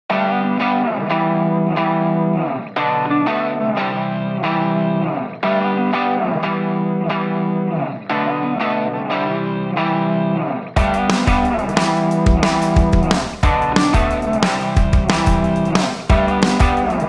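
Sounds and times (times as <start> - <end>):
electric guitar playing sustained chords: 0.1 - 17.0.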